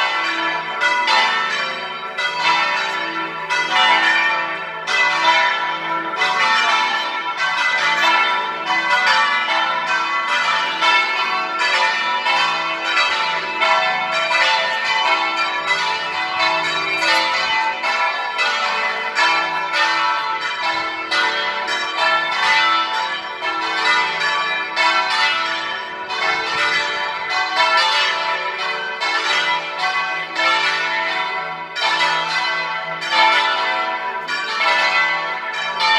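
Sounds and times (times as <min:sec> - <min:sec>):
church bells ringing a peal: 0:00.0 - 0:35.9.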